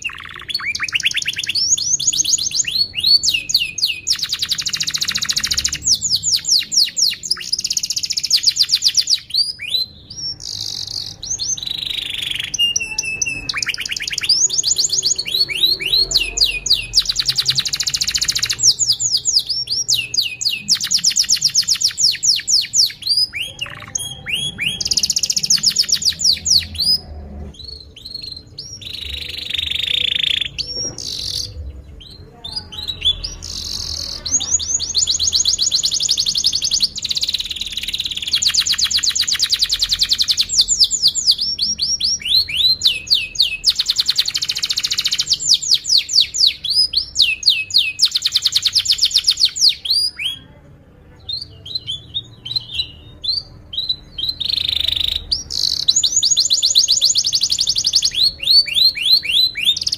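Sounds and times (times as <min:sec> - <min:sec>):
canary singing trills and chirps: 0:00.0 - 0:59.9.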